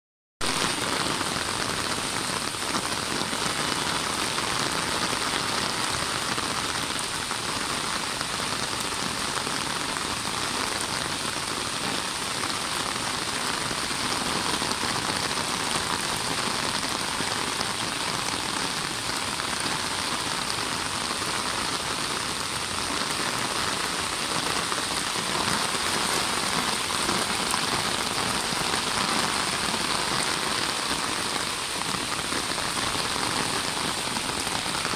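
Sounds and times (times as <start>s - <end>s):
rain pattering on roof and leaves: 0.4s - 34.9s.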